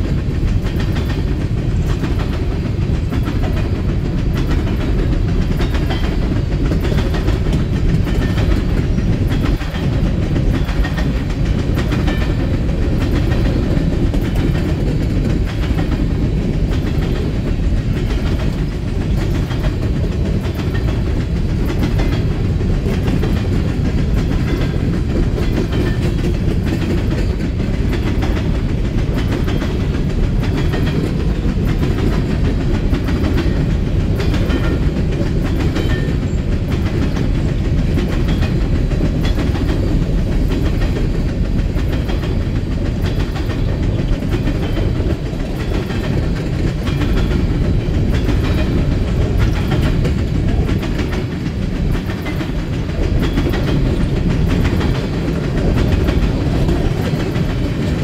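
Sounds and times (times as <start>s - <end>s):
train wheels rumbling on rails: 0.0s - 58.0s
wheels clicking over rail joints: 0.0s - 58.0s.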